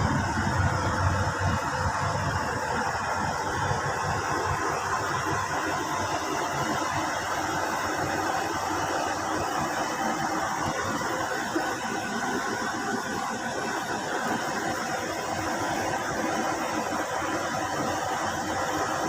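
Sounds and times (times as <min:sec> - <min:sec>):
earthmoving machinery engine running: 0:00.0 - 0:19.0.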